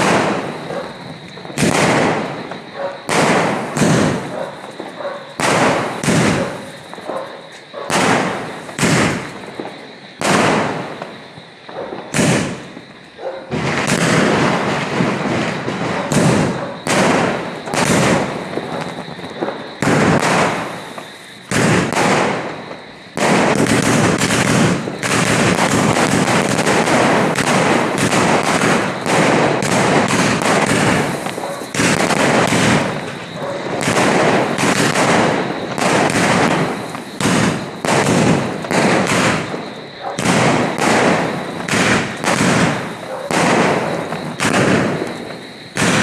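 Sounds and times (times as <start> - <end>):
firework cake shots: 0.0 - 11.2, 11.8 - 12.8, 13.6 - 46.0.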